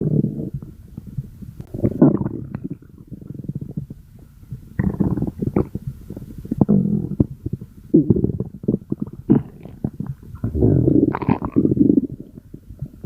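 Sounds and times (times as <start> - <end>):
stomach growling: 0.0 - 13.0.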